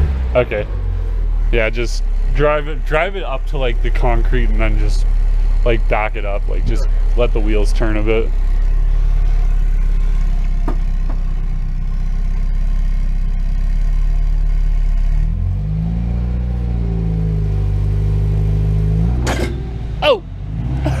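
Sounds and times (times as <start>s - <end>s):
car engine running low: 0.0s - 21.0s.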